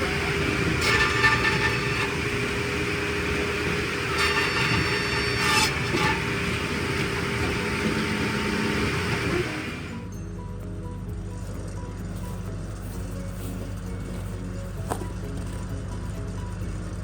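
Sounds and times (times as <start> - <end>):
machinery clatter: 0.0 - 17.0
machinery engine running: 0.0 - 17.0.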